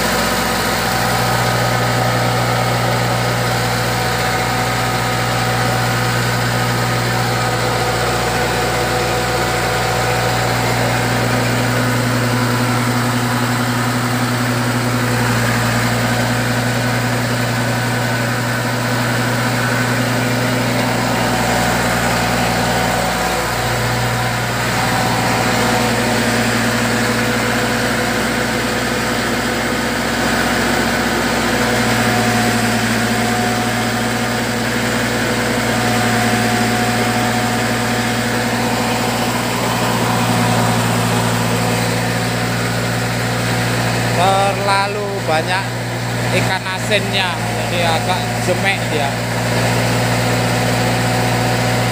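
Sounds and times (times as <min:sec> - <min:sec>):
machine engine drone: 0:00.0 - 0:51.9.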